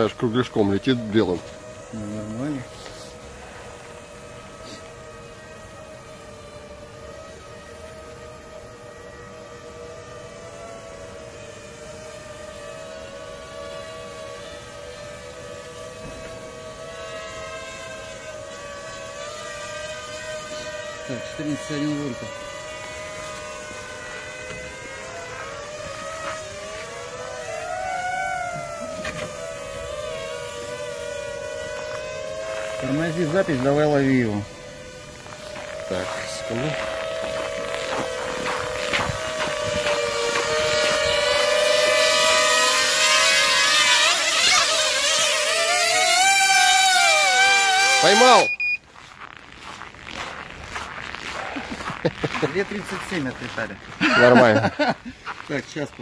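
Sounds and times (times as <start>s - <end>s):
quadcopter motors whining: 0.0s - 48.9s, 49.6s - 56.0s.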